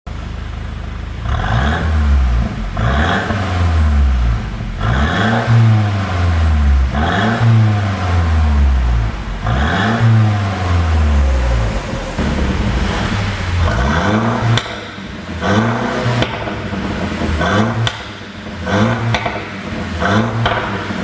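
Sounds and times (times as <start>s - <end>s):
exhaust crackling: 0.2s - 21.0s
car engine revving: 1.2s - 21.0s.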